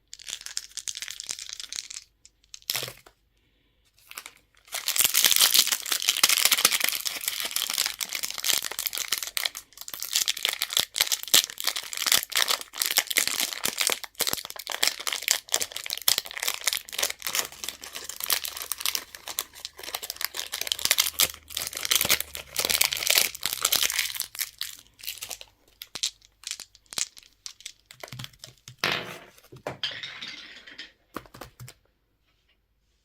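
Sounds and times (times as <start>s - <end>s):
candy wrapper crinkling: 0.0s - 3.1s, 4.0s - 28.8s.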